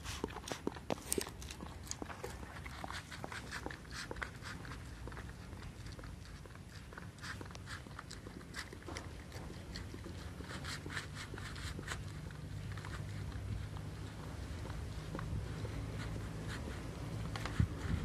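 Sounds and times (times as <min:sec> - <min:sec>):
dog chewing and biting: 0:00.0 - 0:18.0.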